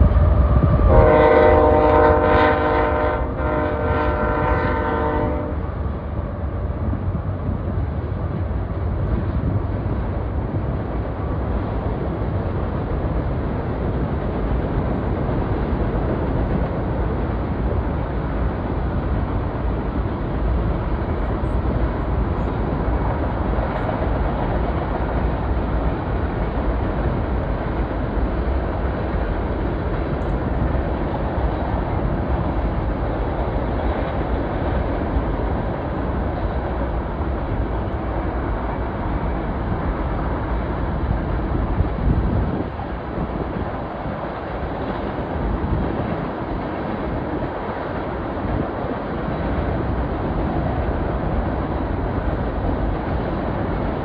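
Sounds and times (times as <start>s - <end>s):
freight train rumbling on bridge: 0.0s - 54.0s.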